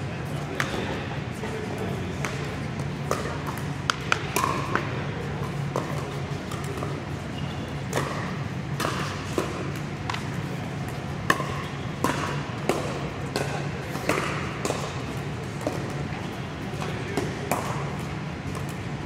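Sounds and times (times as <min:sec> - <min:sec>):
steady low hum: 0:00.0 - 0:19.0
balls bouncing on court: 0:00.3 - 0:19.0
paddles striking plastic balls: 0:02.2 - 0:07.0, 0:07.8 - 0:19.0.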